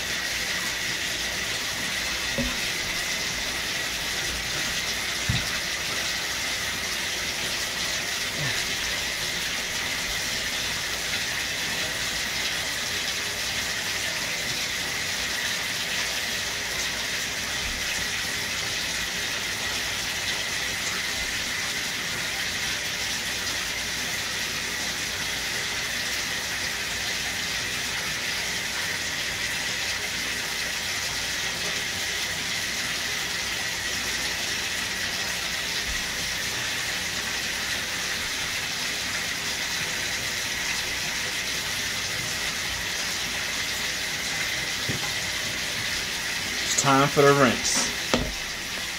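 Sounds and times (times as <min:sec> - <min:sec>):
water running from bathtub tap: 0:00.0 - 0:48.9.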